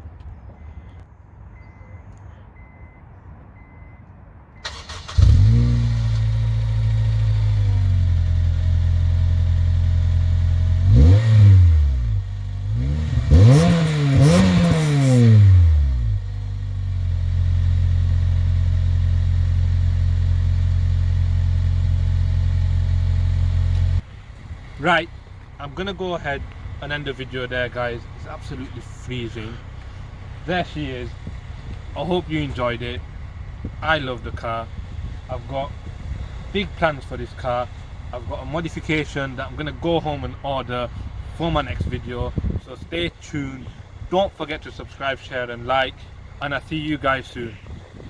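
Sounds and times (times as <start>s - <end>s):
car engine idling and revving: 4.6s - 48.0s.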